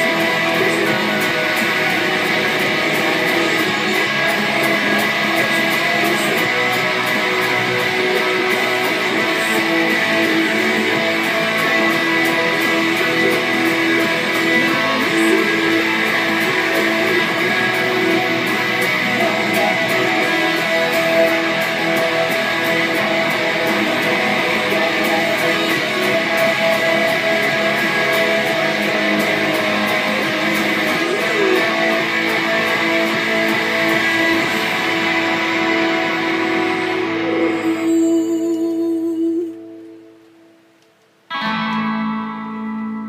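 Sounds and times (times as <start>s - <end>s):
electric guitar strumming chords: 0.0s - 43.0s
recorded band track: 0.0s - 43.0s.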